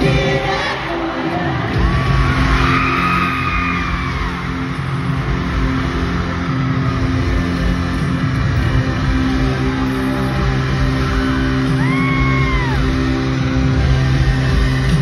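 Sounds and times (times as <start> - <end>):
live rock-pop band playing: 0.0 - 15.0.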